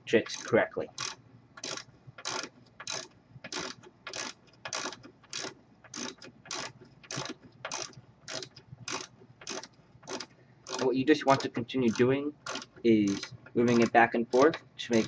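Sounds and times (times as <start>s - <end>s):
socket wrench ratcheting: 0.3s - 15.0s.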